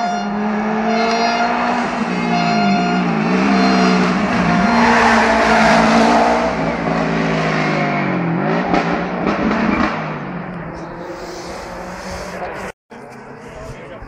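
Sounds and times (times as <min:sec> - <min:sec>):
race car engine at full throttle: 0:00.0 - 0:14.0.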